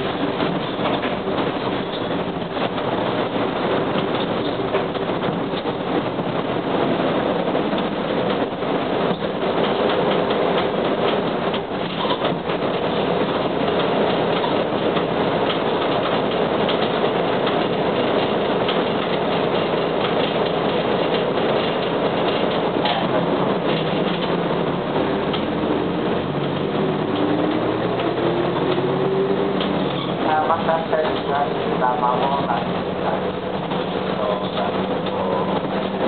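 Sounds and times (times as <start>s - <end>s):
bus interior engine and road drone: 0.0s - 36.0s.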